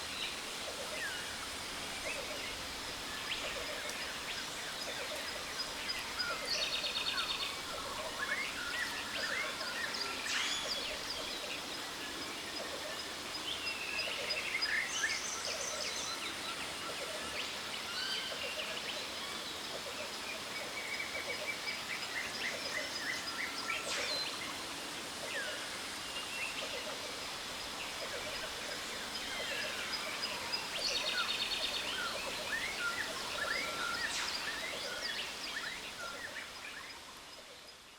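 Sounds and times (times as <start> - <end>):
jungle birds calling: 0.0 - 37.1.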